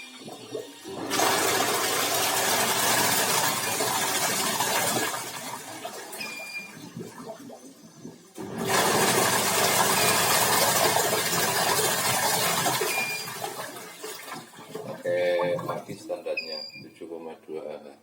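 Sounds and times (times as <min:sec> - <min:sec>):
washing machine running: 0:00.0 - 0:15.8
water rushing in tub: 0:00.0 - 0:16.2.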